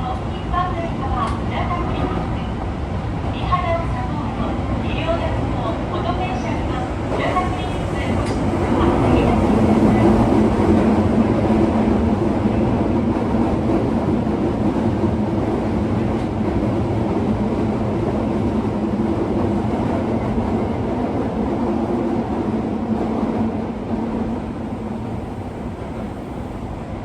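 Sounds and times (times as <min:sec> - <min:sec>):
subway car wheels rumbling: 0:00.0 - 0:27.0.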